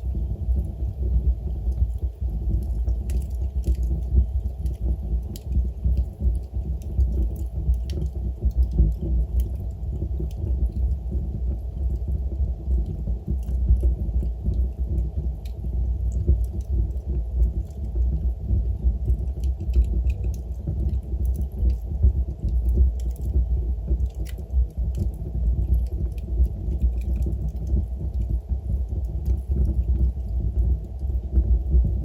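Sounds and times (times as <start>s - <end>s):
log fire burning: 0.0s - 32.0s
wood crackling and popping: 0.0s - 32.0s.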